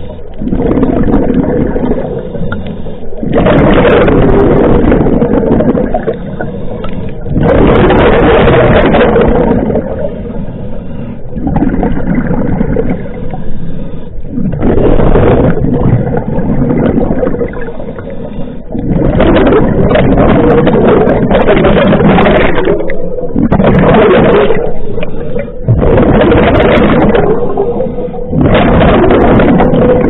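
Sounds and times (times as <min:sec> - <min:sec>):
diver exhaling bubbles underwater: 0:00.0 - 0:02.6, 0:03.2 - 0:10.3, 0:11.3 - 0:13.4, 0:14.3 - 0:30.0.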